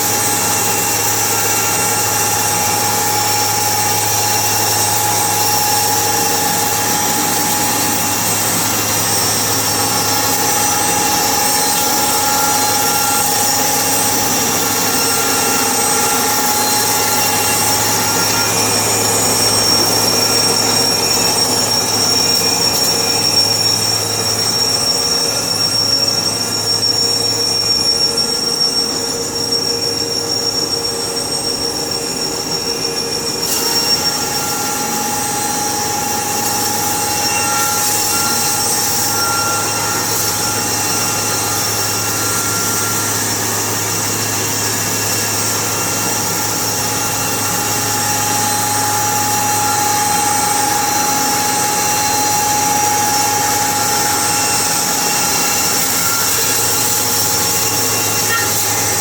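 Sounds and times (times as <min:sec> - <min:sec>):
sawmill machinery high whine: 0:00.0 - 0:59.0.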